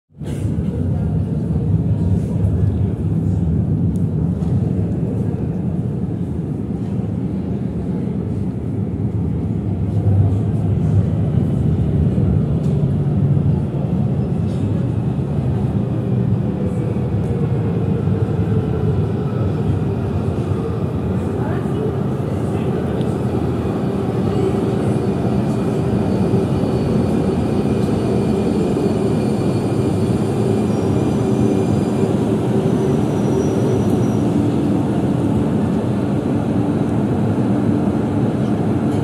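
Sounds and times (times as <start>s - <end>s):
tram rumbling in tunnel: 0.1s - 39.0s.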